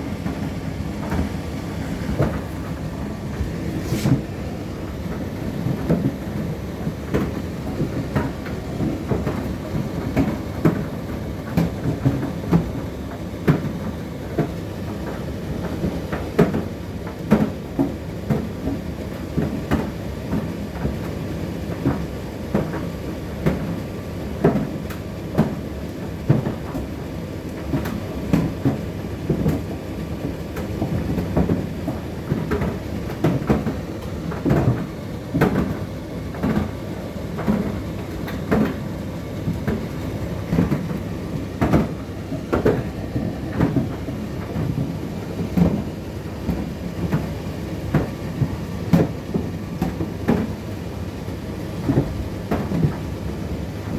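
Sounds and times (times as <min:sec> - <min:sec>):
tumble dryer drum rumble: 0:00.0 - 0:53.9.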